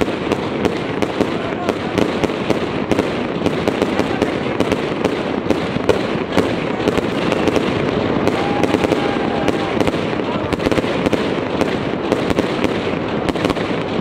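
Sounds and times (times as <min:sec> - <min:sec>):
dense continuous noise: 0:00.0 - 0:14.0
fireworks crackling pops: 0:00.0 - 0:14.0.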